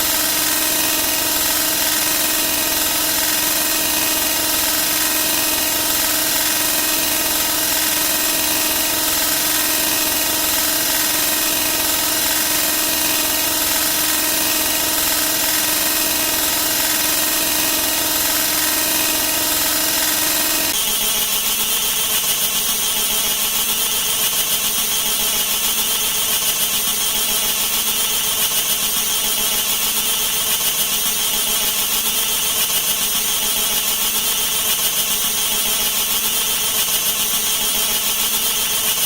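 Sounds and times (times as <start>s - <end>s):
mechanical buzzing drone: 0.0s - 39.0s.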